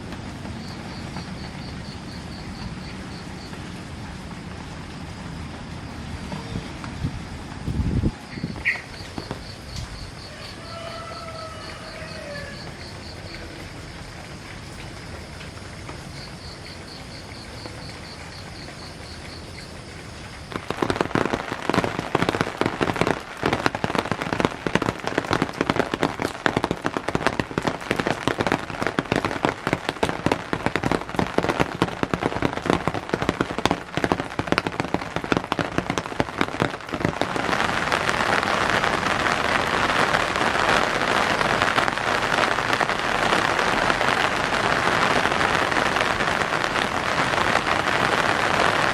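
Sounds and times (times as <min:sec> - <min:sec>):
heavy raindrops pattering: 0:00.0 - 0:48.9
rain falling: 0:00.0 - 0:48.9.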